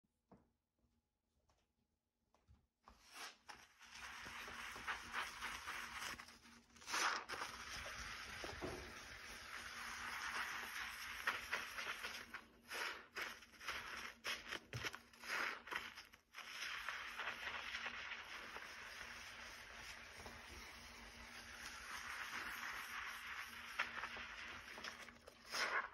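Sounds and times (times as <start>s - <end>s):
sponge scrubbing countertop: 3.8s - 25.9s.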